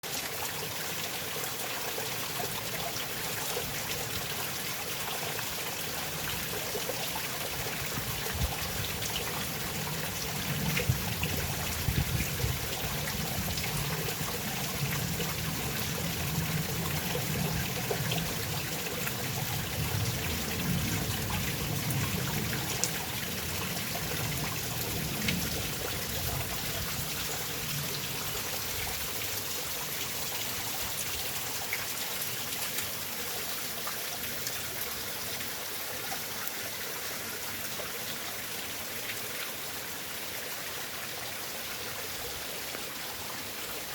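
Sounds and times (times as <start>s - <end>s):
stream trickling and gurgling: 0.0s - 43.9s.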